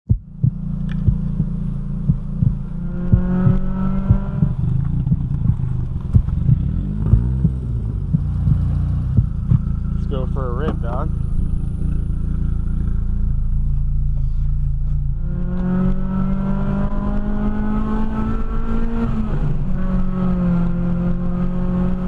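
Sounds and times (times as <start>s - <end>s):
car engine running: 0.1s - 22.0s
engine clatter and ticks: 0.1s - 22.0s
engine revving: 0.1s - 22.0s.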